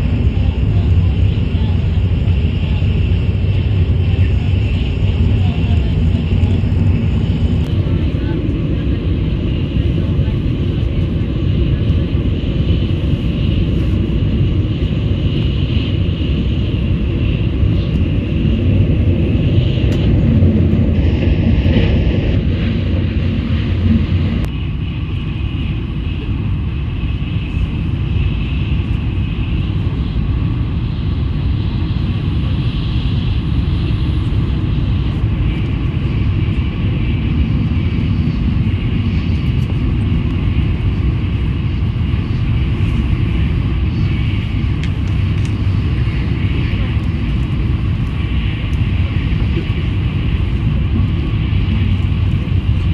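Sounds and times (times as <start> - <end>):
high-speed train rumble inside cabin: 0.0 - 52.9.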